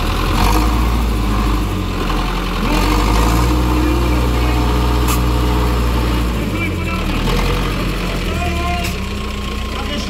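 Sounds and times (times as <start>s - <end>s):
tractor diesel engine running: 0.0s - 10.0s
crowd voices: 1.2s - 10.0s.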